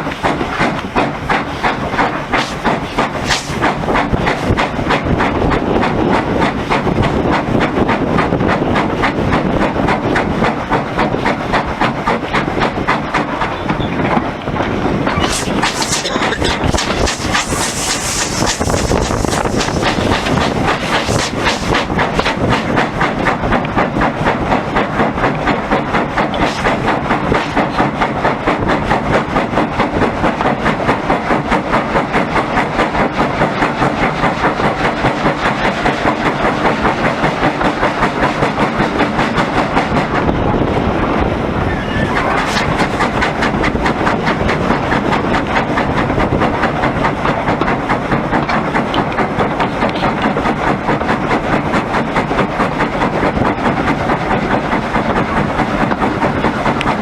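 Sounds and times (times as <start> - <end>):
steam train running: 0.0 - 57.0.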